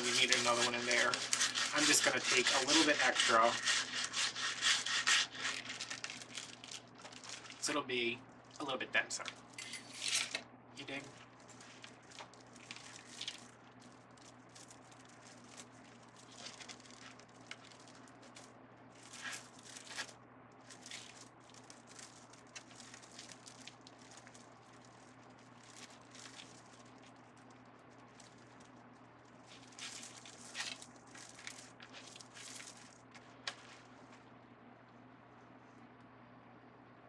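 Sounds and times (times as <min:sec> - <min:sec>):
mesh rustling and crinkling: 0:00.0 - 0:34.3
steady low hum: 0:00.0 - 0:37.0.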